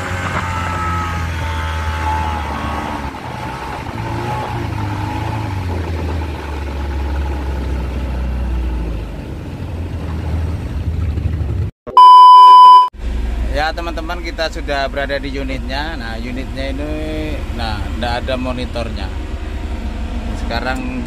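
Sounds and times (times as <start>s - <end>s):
boat motor humming: 0.0s - 21.0s.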